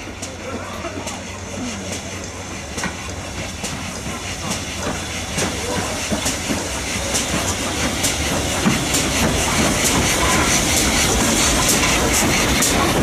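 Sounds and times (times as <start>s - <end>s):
steam locomotive rumble and hiss: 0.0s - 13.0s
wheels clicking over rail joints: 0.0s - 13.0s.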